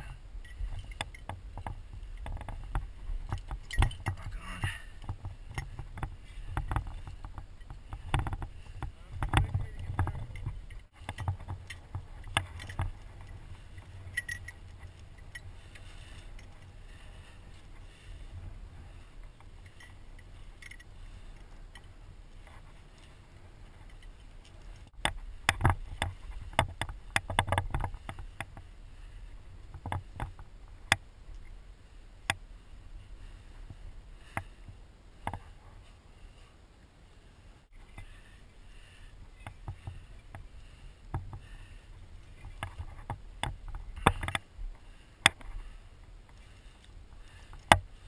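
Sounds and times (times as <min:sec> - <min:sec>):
climbing gear scraping and knocking: 0:00.0 - 0:31.5, 0:33.6 - 0:35.9, 0:39.1 - 0:48.0
steady low rumble: 0:00.0 - 0:48.0.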